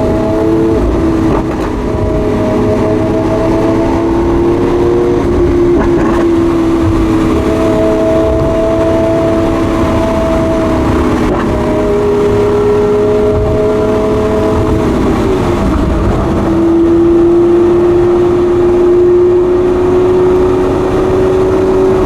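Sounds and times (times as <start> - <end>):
car engine droning: 0.0 - 22.0
low road rumble: 0.0 - 22.0.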